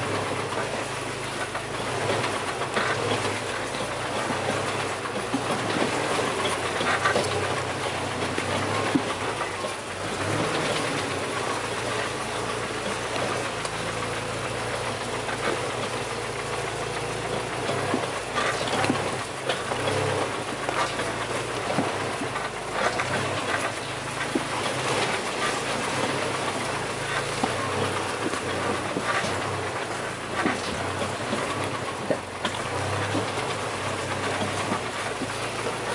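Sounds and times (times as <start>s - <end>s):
body and suspension rattles: 0.0s - 35.9s
off-road vehicle engine: 0.0s - 35.9s.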